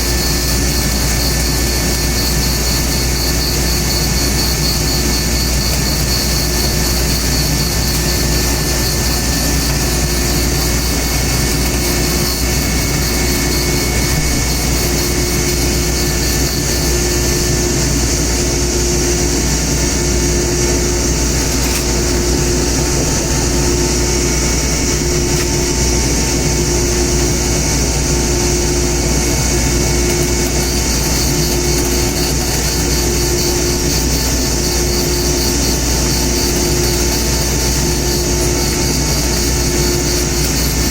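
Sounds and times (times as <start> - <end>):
woodworking machine droning: 0.0 - 40.9.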